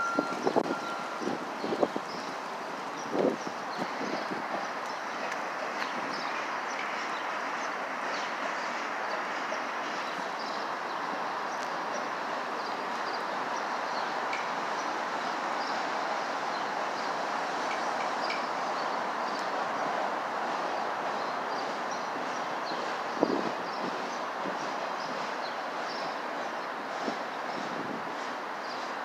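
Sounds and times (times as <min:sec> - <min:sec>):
freight train rolling: 0:00.0 - 0:29.0.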